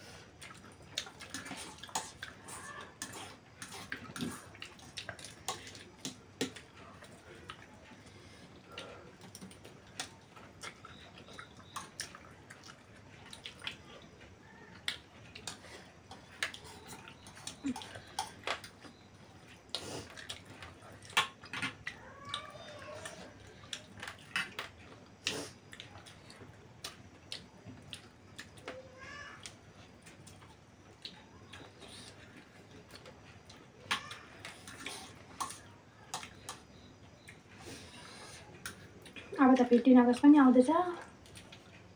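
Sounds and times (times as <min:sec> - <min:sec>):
wet chewing: 0:00.0 - 0:39.8, 0:41.0 - 0:41.9.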